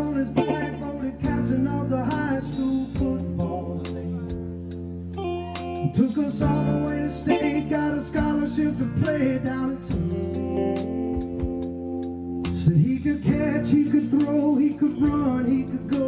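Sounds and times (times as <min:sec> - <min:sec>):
man singing: 0:00.0 - 0:04.6, 0:05.8 - 0:11.3, 0:12.5 - 0:16.0
acoustic guitar: 0:00.0 - 0:16.0.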